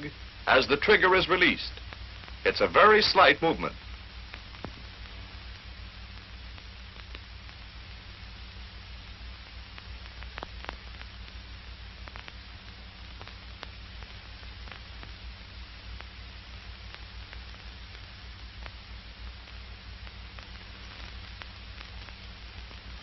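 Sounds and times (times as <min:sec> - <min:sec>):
faint crackles and pops: 0:00.0 - 0:23.0
film soundtrack hiss and hum: 0:00.0 - 0:23.0.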